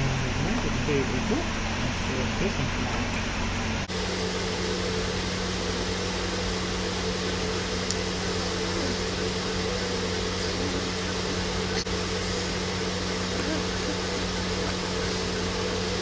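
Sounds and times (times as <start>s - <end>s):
air conditioning hum and hiss: 0.0s - 16.0s.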